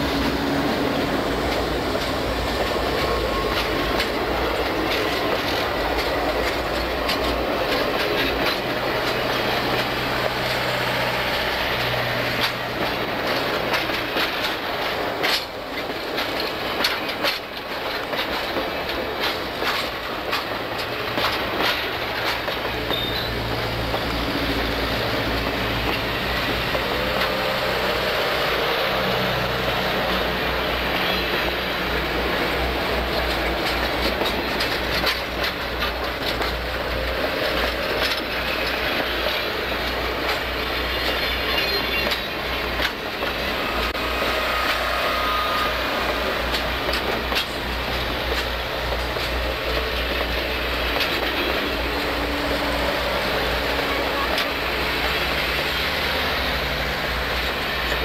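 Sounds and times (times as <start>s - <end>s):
train wheels clickety-clack: 0.0s - 58.0s.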